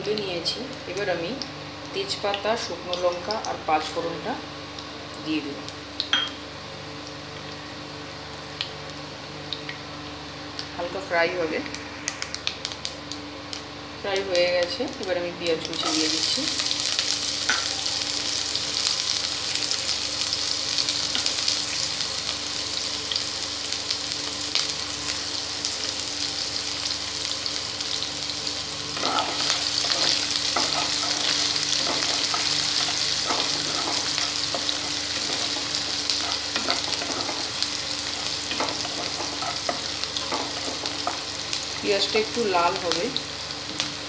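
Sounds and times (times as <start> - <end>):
onions sizzling in hot oil: 0.0 - 44.0.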